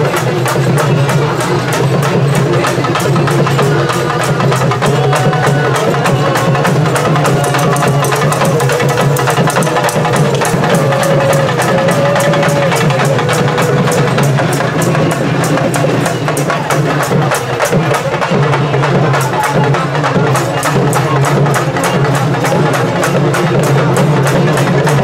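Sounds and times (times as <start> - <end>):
fast steady drumming: 0.0 - 25.0.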